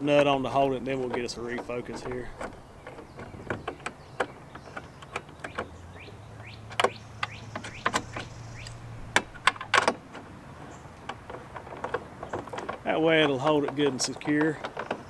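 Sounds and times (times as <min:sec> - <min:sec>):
metal hardware clicks and knocks: 0:00.0 - 0:15.0.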